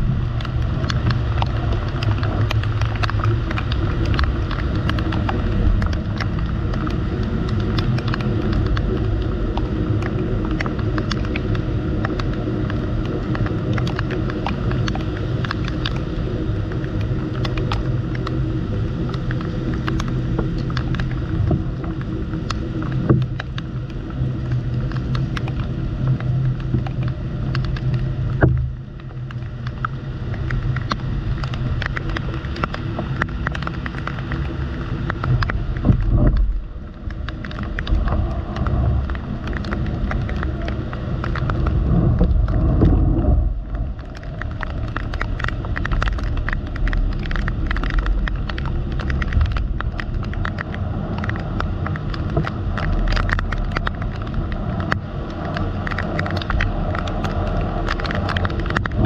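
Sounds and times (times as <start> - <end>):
low rain rumble: 0.0 - 59.0
raindrops ticking on surfaces: 0.0 - 59.0.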